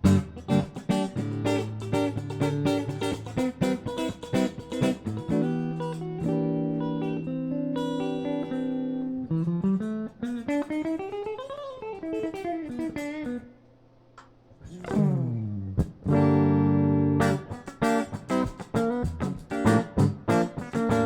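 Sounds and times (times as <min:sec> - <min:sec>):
clean electric guitar notes: 0:00.0 - 0:13.4, 0:14.6 - 0:21.0.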